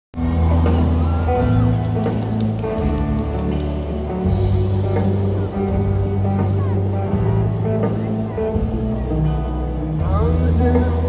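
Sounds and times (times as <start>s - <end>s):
live pop-rock band: 0.2s - 11.0s.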